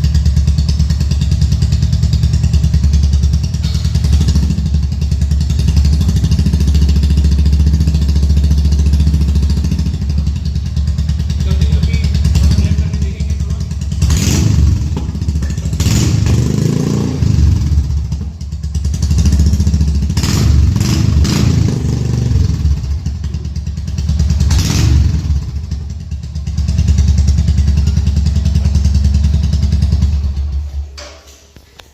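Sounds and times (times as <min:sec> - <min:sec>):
motorcycle engine idling and revving: 0:00.0 - 0:31.0.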